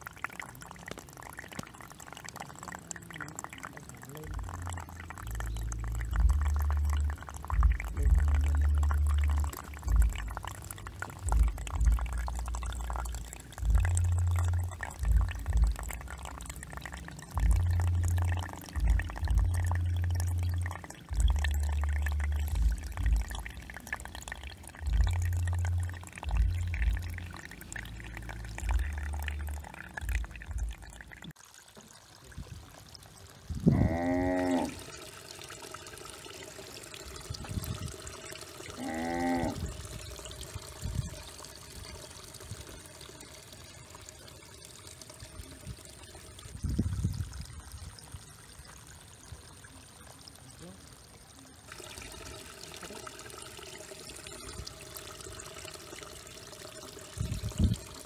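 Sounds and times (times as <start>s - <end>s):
water splashing and trickling: 0.0s - 58.0s.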